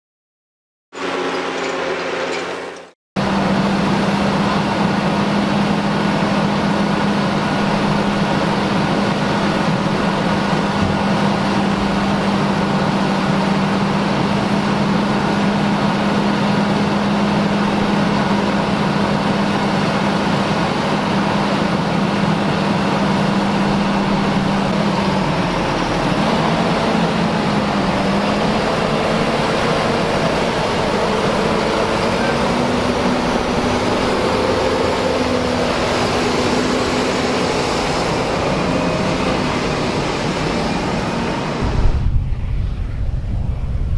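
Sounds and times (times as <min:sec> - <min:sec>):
tractor engine running: 0:01.0 - 0:43.9.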